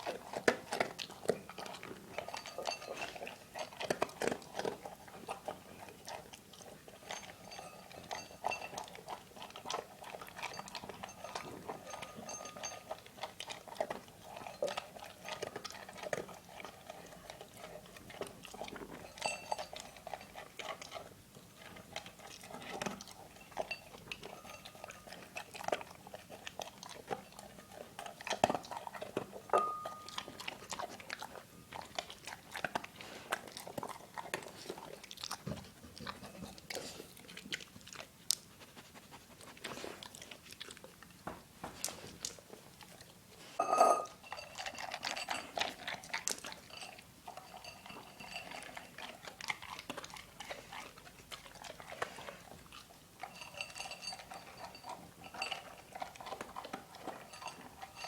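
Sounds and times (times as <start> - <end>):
dog crunching and chewing food: 0.0 - 58.0.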